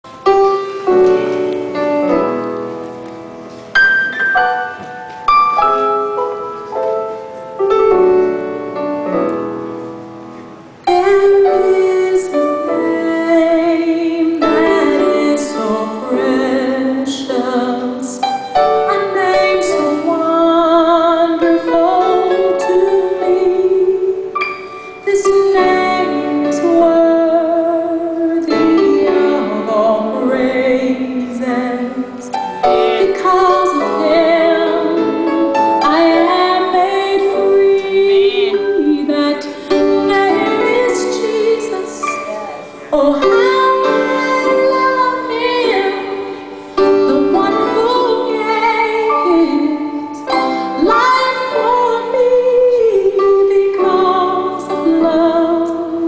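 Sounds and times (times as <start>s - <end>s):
piano: 0.0s - 56.0s
woman singing with vibrato: 10.9s - 56.0s.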